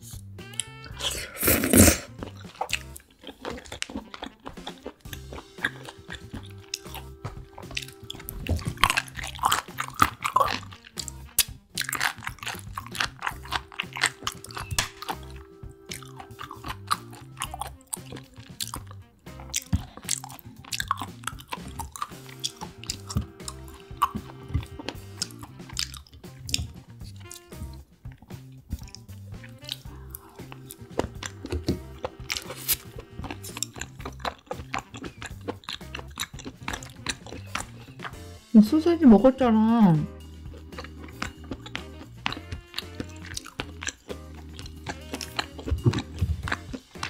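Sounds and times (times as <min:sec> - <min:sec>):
crunchy biting and chewing: 0:00.0 - 0:38.5, 0:40.2 - 0:47.0
soft background music: 0:00.0 - 0:47.0.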